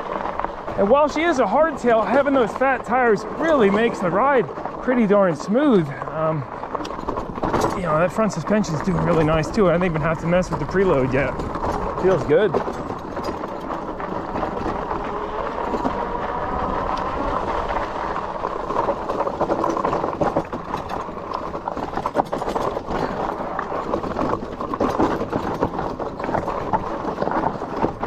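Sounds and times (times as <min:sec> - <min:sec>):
bike rattling over stones: 0:00.0 - 0:28.0
bike tyres rolling over gravel: 0:00.0 - 0:28.0.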